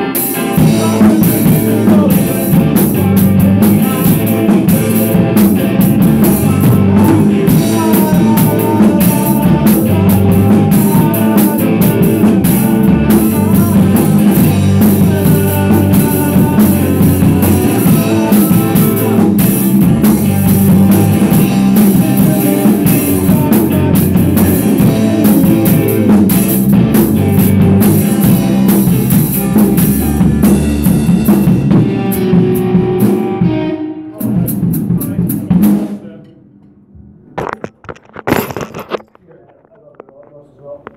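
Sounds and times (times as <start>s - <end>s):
electric guitar: 0.0s - 36.5s
drum kit beat: 0.0s - 36.8s.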